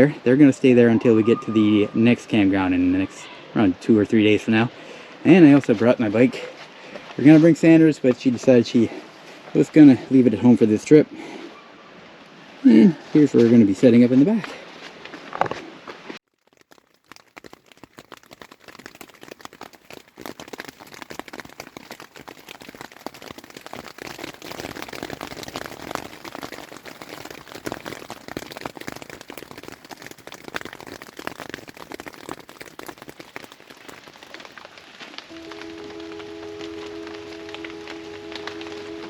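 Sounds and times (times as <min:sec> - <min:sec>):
rain pattering: 0:00.0 - 0:14.6, 0:16.2 - 0:39.0.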